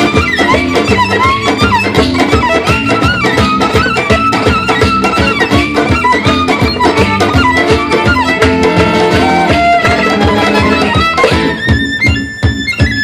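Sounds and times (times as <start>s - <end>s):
guitar: 0.0s - 13.0s
hand drum beat: 0.0s - 13.0s
violin melody: 0.0s - 13.0s.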